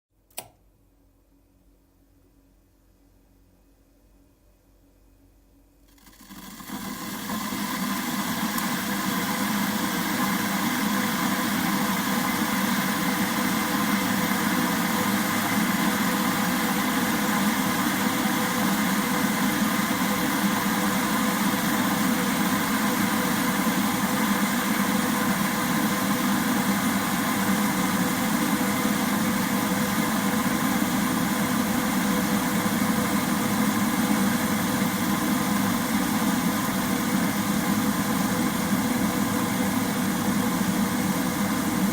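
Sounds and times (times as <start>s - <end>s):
electric kettle heating water: 5.8s - 41.9s.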